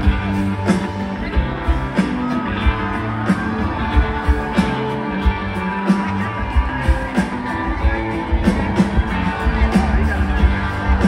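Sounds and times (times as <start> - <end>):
electric guitar: 0.0 - 11.0
live rock band playing: 0.0 - 11.0
steady drum beat: 0.0 - 11.0.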